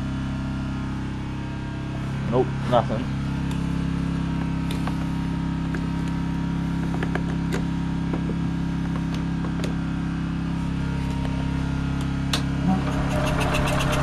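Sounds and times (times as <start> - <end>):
generator engine idling: 0.0 - 14.0.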